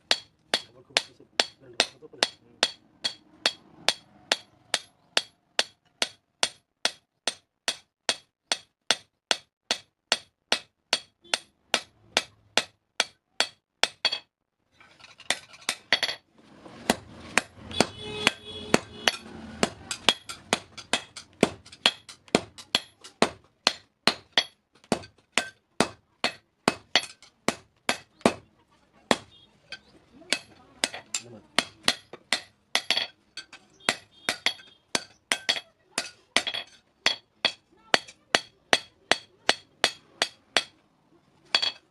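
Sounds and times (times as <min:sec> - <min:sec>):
hammer striking metal on anvil: 0:00.0 - 0:14.3, 0:16.9 - 0:28.4, 0:29.1 - 0:40.8, 0:41.5 - 0:41.9.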